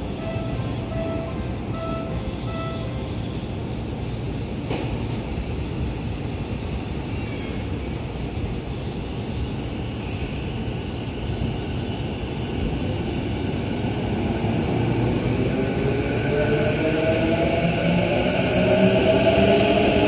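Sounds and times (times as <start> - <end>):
electric train rolling rumble: 0.0 - 20.0.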